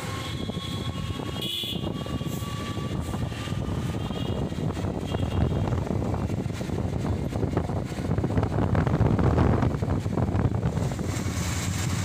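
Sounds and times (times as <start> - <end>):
motorcycle engine rumble: 0.0 - 12.0
wind on microphone: 0.0 - 12.0.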